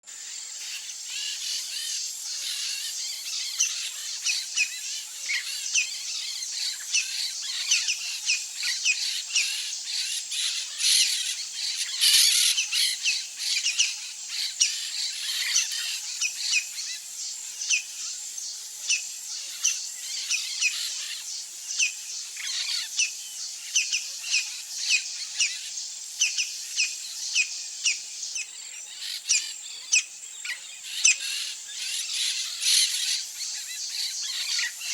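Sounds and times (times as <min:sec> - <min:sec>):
high-pitched insect drone: 0:00.1 - 0:34.9
wild birds chirping: 0:00.3 - 0:34.9.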